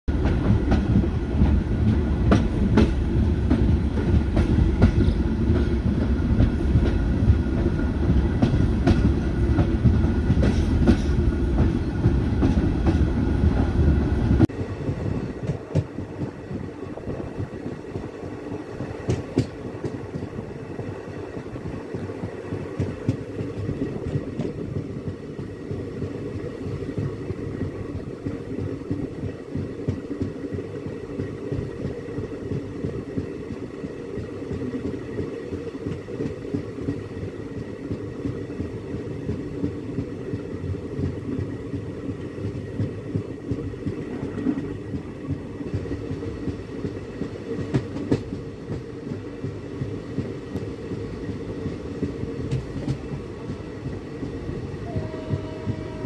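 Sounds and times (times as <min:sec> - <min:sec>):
train rumbling on a bridge: 0:00.0 - 0:56.0.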